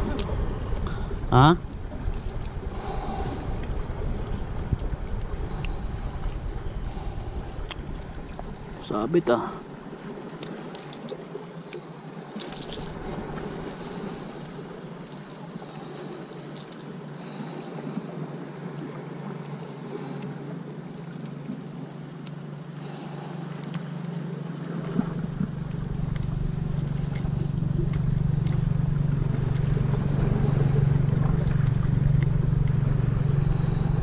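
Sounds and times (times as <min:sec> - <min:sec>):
motor engine humming: 0:00.0 - 0:34.0.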